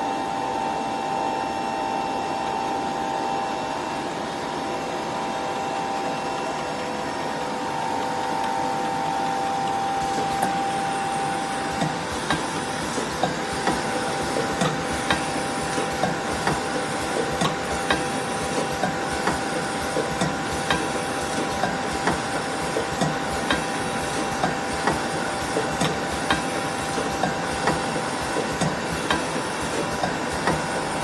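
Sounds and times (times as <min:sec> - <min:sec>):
machine hum with held tone: 0:00.0 - 0:31.0.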